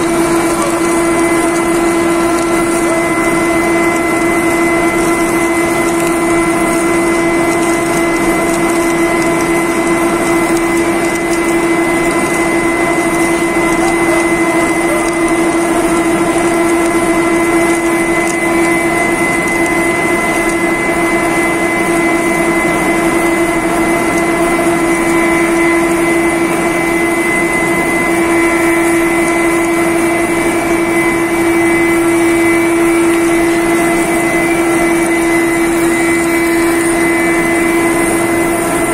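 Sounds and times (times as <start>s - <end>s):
higher machine tone: 0.0s - 38.9s
machine drone with whine: 0.0s - 38.9s.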